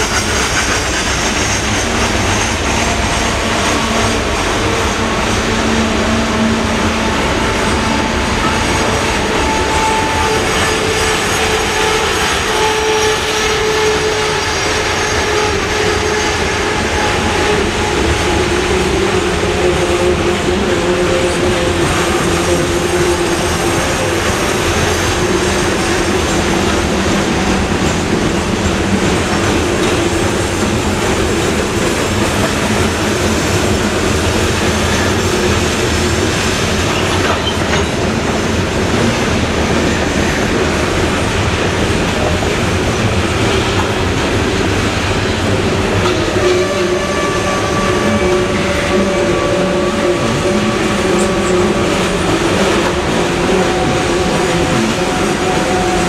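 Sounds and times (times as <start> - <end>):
wheels squealing against rail: 0.0 - 28.0, 29.3 - 38.4, 46.0 - 56.0
train wheels rumbling on rails: 0.0 - 56.0.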